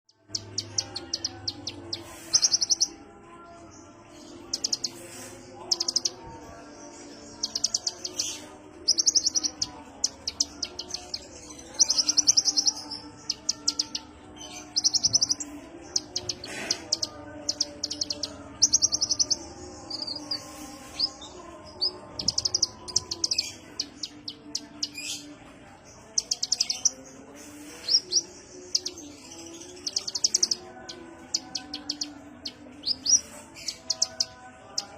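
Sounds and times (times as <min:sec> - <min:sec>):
bird chirping trills: 0:00.1 - 0:27.1, 0:27.7 - 0:34.9.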